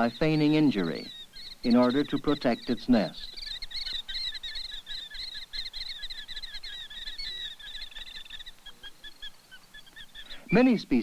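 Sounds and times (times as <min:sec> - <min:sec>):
killdeer calling: 0:00.0 - 0:11.0.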